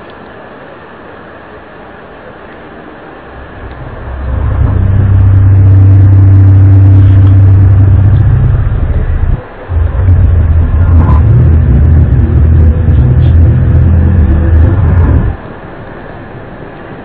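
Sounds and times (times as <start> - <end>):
low droning hum: 3.0 - 17.0.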